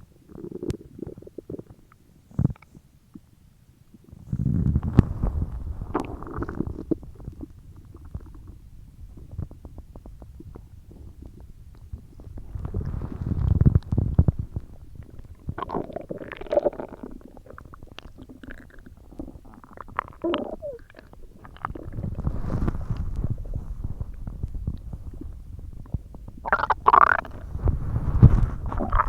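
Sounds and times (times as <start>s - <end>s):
stomach growling: 0.2s - 3.3s, 4.0s - 29.0s.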